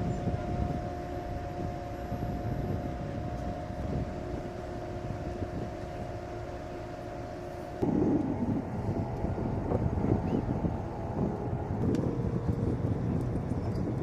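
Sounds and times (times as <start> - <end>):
engine whine and rumble: 0.0 - 14.0
wind on microphone: 0.0 - 14.0.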